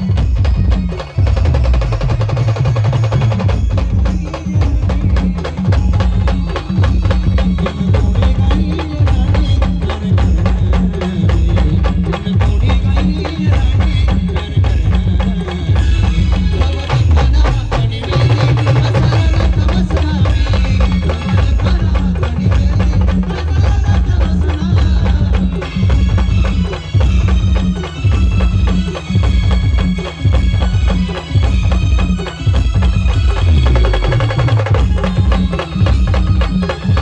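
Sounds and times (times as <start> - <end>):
heavy drum beat: 0.0 - 37.0.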